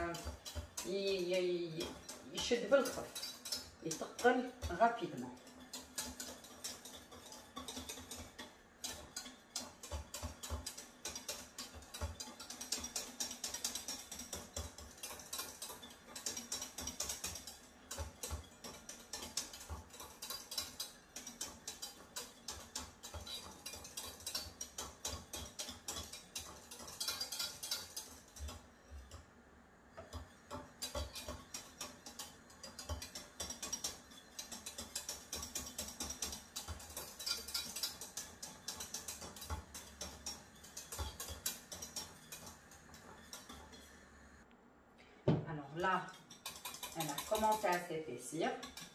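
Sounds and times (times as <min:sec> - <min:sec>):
metal whisk beating in saucepan: 0:00.0 - 0:44.4, 0:45.4 - 0:48.9.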